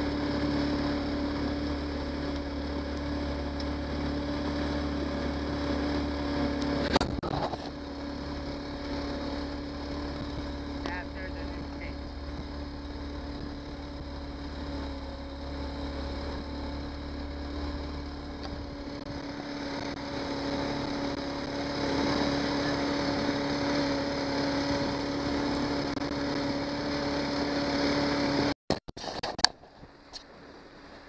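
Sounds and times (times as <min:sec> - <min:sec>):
water rushing: 0:00.0 - 0:28.5
outboard motor droning: 0:00.0 - 0:28.6, 0:29.2 - 0:31.0
wind: 0:00.0 - 0:31.0.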